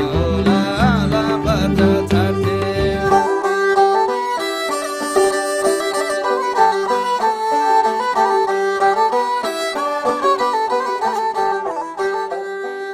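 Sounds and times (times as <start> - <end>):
fiddle melody: 0.0 - 12.9
picked strings: 0.0 - 12.9.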